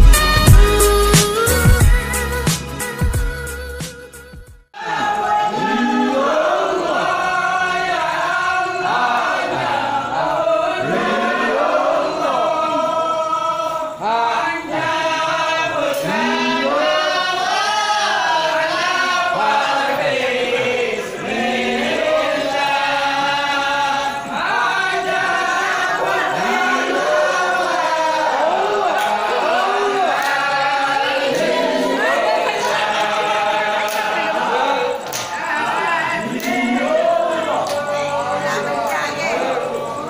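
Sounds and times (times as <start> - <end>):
men chanting in unison: 4.8 - 40.0.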